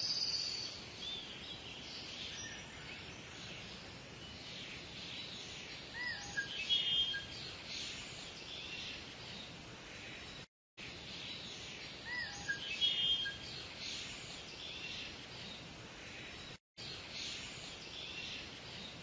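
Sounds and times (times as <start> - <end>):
outdoor background hiss: 0.0 - 19.0
small birds chirping: 0.0 - 19.0.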